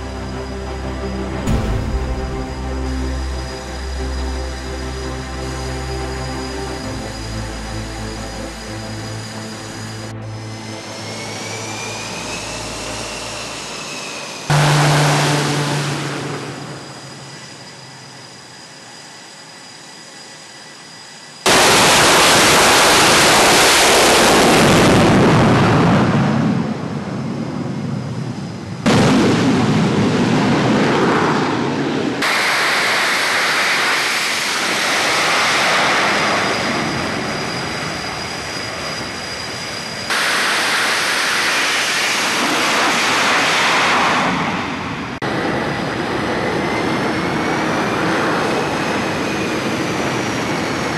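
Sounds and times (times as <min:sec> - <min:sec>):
jet engines roaring with high whine: 0:00.0 - 0:50.9.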